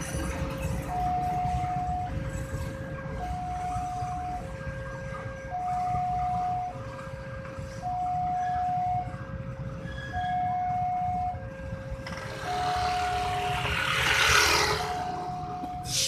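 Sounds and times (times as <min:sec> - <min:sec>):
vehicle engines idling: 0:00.0 - 0:16.0.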